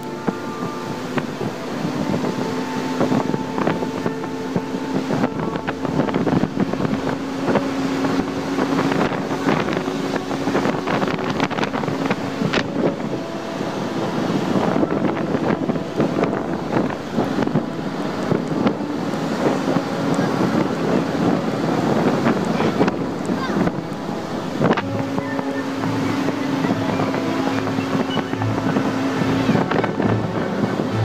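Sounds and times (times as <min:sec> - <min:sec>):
vehicle engine drone and road noise: 0:00.0 - 0:31.0
wind knocking on microphone: 0:00.0 - 0:31.0.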